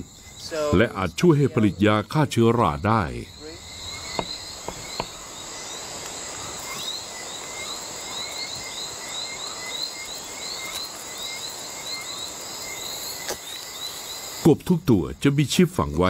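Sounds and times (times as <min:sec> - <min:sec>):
high-pitched insect drone: 0:00.0 - 0:14.4
insects chirping: 0:00.0 - 0:16.0.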